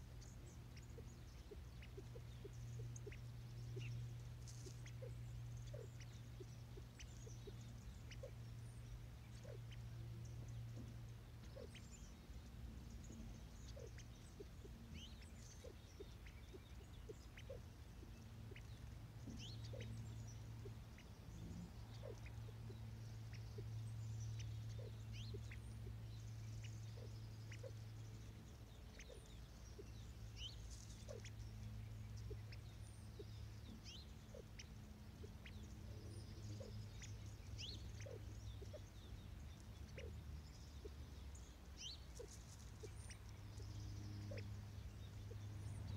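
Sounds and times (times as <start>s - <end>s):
birds pecking seed ticks: 0.0s - 45.9s
low steady hum: 0.0s - 45.9s.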